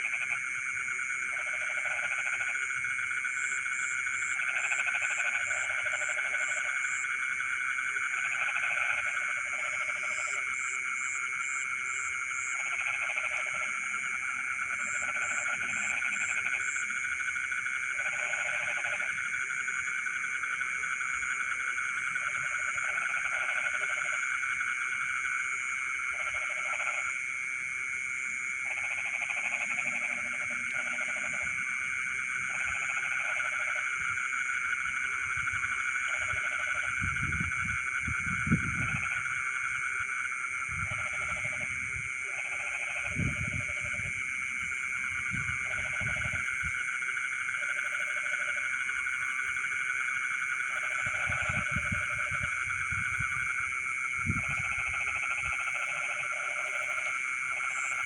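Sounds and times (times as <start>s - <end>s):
frogs trilling: 0.0s - 58.0s
low croaking frog: 0.0s - 58.0s.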